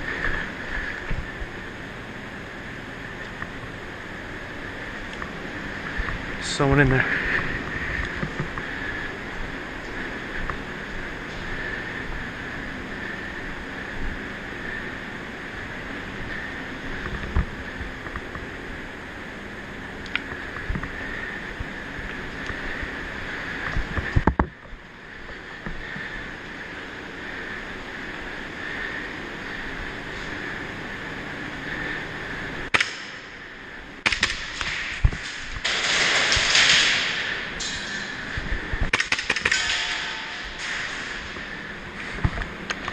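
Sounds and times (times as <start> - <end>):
steady rushing noise: 0.0 - 42.9.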